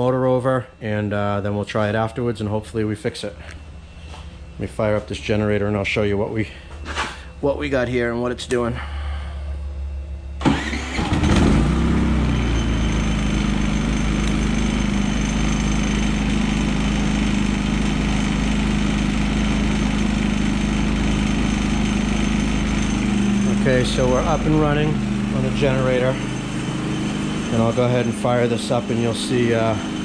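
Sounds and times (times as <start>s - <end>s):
generator engine starting and running: 0.0s - 30.0s.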